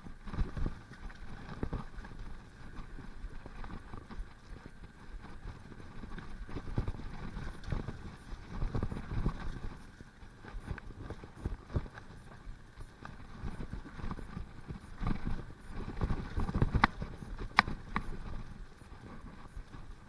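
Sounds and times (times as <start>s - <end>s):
bike rattling over bumps: 0.0s - 20.0s
bike tyres on dirt trail: 0.0s - 20.0s.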